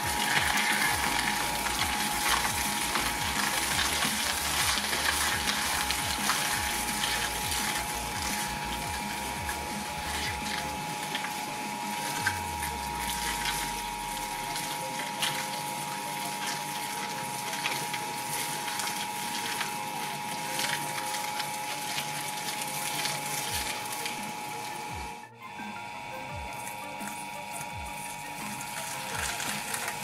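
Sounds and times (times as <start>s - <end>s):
blades crunching cauliflower: 0.0s - 25.2s, 26.5s - 30.0s
shredder whine: 0.0s - 30.0s.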